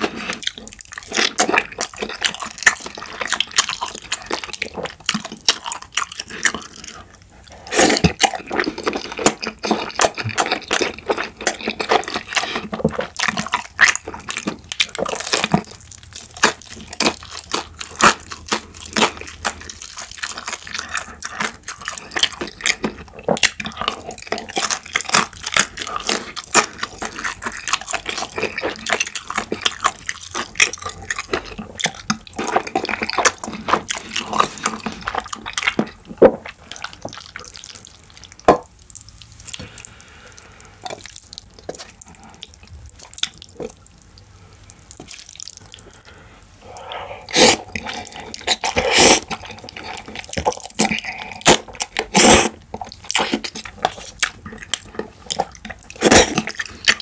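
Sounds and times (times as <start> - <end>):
person chewing wetly: 0.0 - 57.0.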